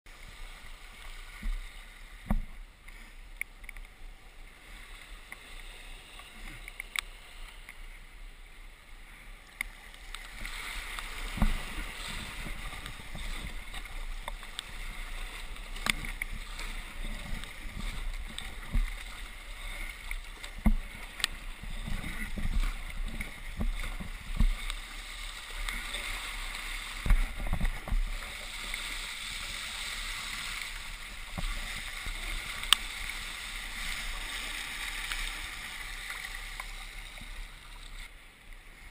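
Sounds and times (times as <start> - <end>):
tidal current rushing: 0.1 - 38.2.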